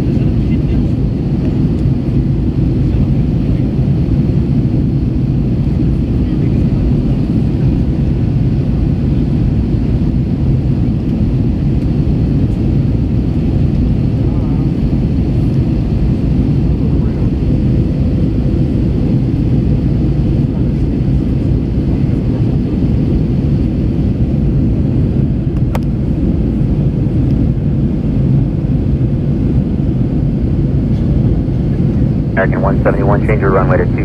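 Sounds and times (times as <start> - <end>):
airliner cabin engine hum: 0.0 - 34.0.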